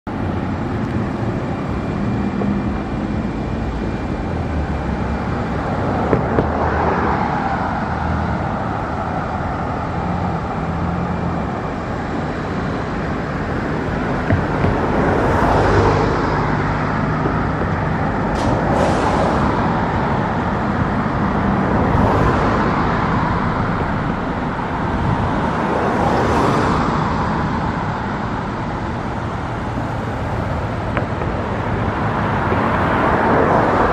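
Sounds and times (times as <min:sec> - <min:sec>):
cars passing: 0:00.1 - 0:33.9.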